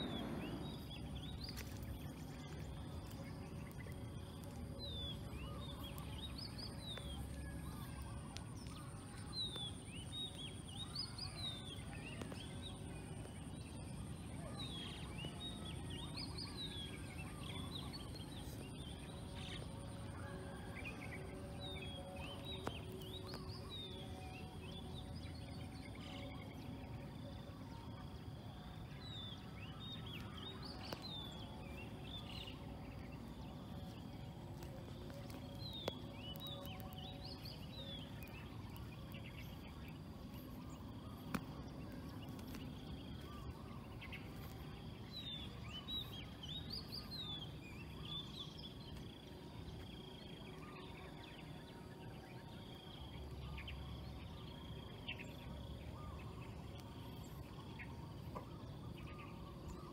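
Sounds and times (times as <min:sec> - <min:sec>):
low background noise: 0:00.0 - 0:59.9
small birds twittering: 0:00.0 - 0:59.9.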